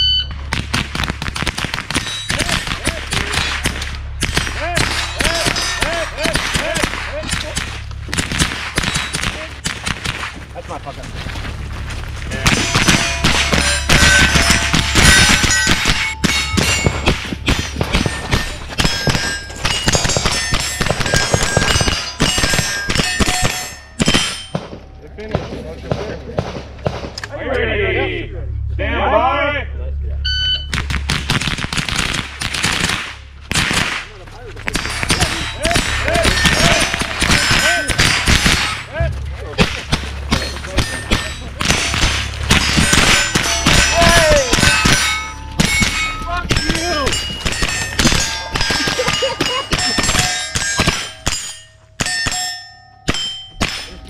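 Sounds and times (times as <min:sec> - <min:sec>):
rifle shots hitting steel targets: 0:00.4 - 0:10.5, 0:12.3 - 0:27.3, 0:30.7 - 0:54.0.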